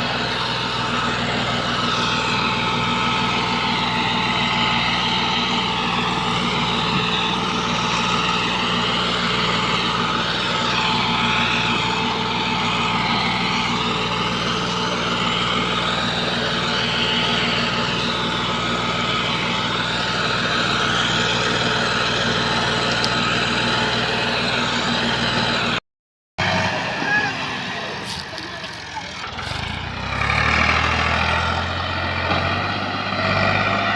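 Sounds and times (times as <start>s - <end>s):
tractor diesel engine under load: 0.0s - 25.8s, 26.4s - 33.9s.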